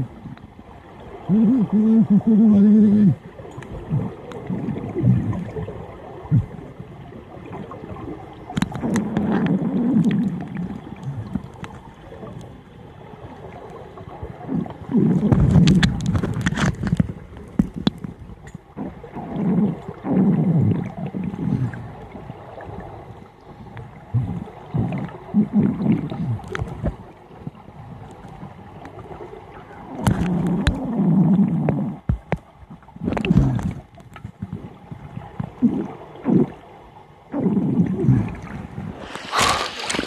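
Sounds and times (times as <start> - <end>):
underwater bubbling exhalations: 1.1 - 12.5, 13.6 - 23.0, 23.7 - 27.6, 29.6 - 40.0.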